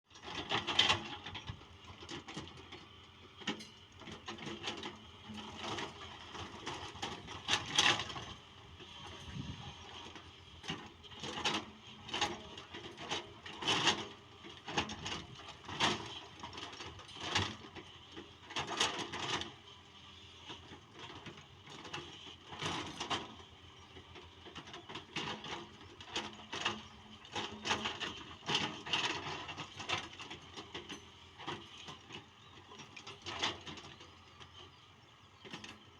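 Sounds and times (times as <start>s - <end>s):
excavator working: 0.1s - 35.9s.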